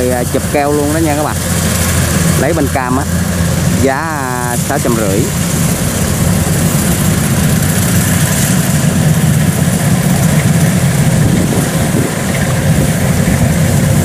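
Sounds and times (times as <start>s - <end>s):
combine harvester diesel engine: 0.0s - 14.0s.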